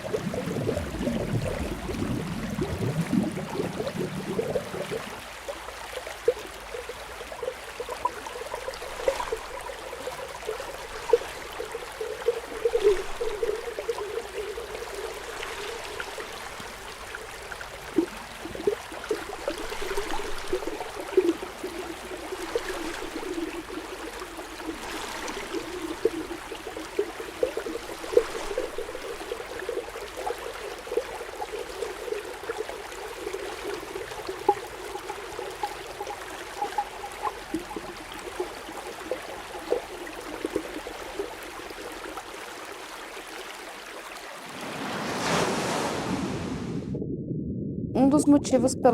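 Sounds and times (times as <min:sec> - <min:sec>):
underwater bubbling: 0:00.0 - 0:44.9.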